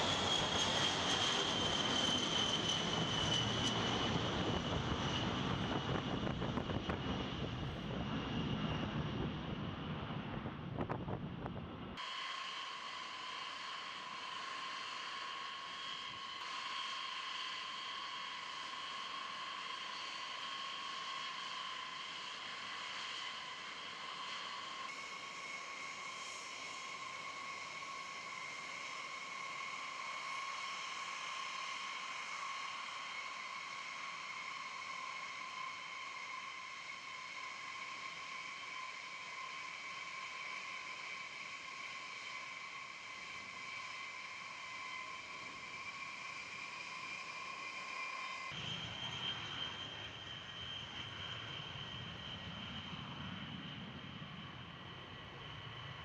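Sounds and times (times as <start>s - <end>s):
jet turbine whine: 0.0s - 56.0s.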